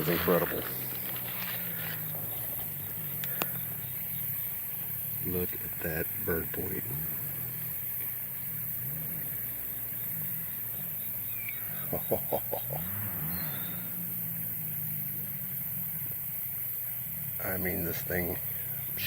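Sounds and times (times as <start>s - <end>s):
distant atv engines revving: 0.0s - 19.0s.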